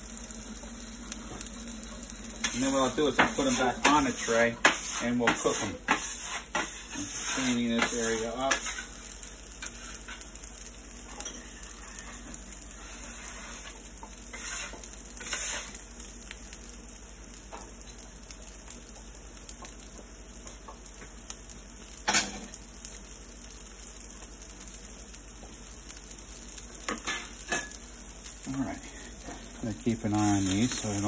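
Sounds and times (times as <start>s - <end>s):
meatballs sizzling in a pan: 0.0s - 31.0s.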